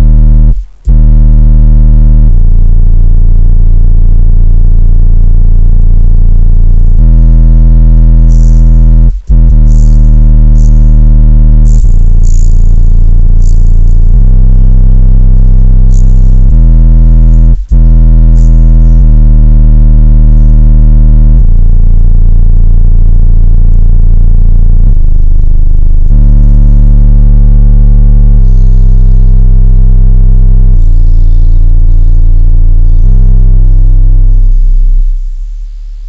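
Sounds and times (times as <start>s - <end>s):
bass-heavy music through subwoofers: 0.0s - 36.0s.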